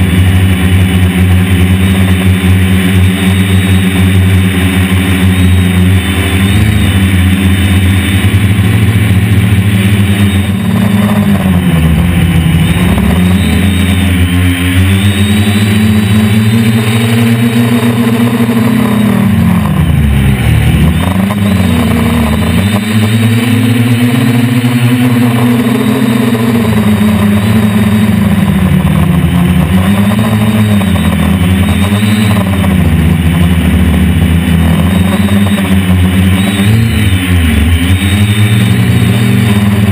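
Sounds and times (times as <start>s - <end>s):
quadcopter propellers whirring: 0.0s - 39.9s.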